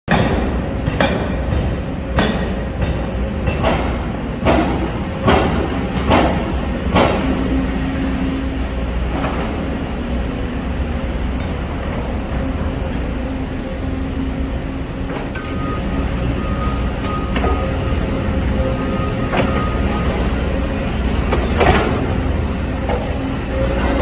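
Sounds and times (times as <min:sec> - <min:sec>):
diesel engines droning: 0:00.1 - 0:24.0.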